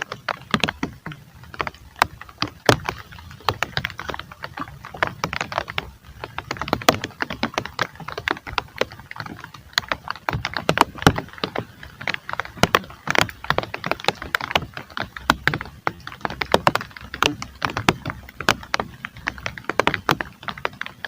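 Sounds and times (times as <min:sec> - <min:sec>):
low rumble of rain: 0:00.0 - 0:21.0
raindrops tapping near microphone: 0:00.0 - 0:21.0.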